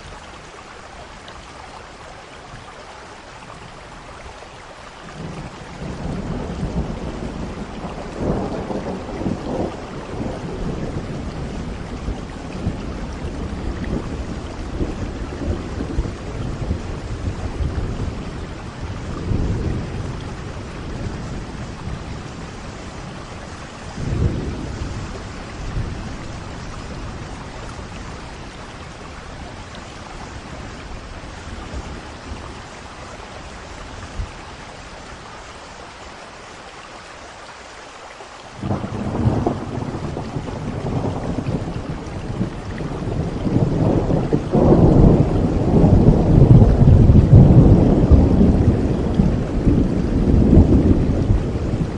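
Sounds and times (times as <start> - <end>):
steady rain: 0.0 - 51.9
thunder rumbling: 5.2 - 34.5, 38.6 - 51.9.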